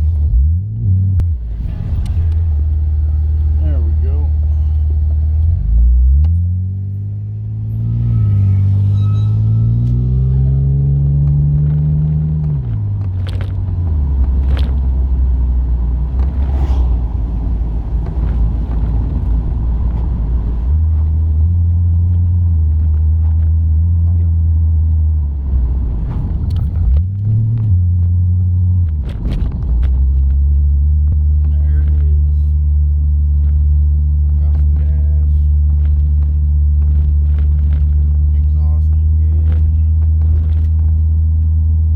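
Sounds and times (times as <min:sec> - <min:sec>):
car exhaust drone: 0:00.0 - 0:41.9.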